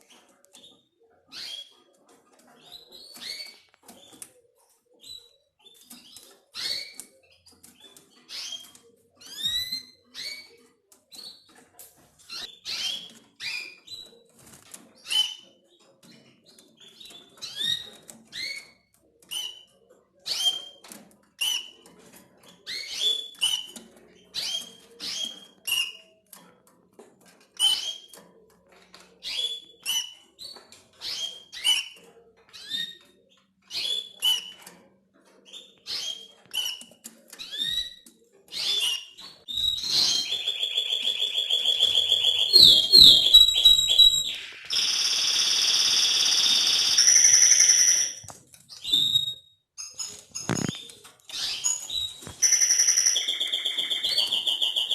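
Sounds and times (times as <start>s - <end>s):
canary chirping and trilling: 0.0s - 54.9s.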